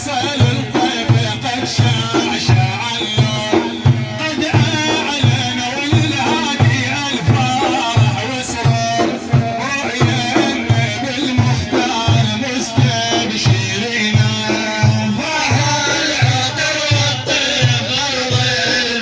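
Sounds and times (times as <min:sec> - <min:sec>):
deep drum beat: 0:00.0 - 0:19.0.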